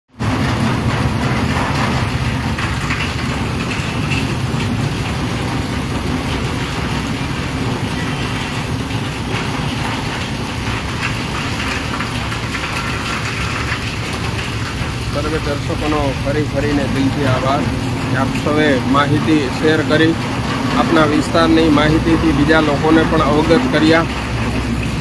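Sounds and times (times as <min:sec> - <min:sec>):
low traffic rumble: 0:00.1 - 0:25.0
rain falling: 0:00.1 - 0:25.0
vehicles passing on wet road: 0:00.2 - 0:25.0.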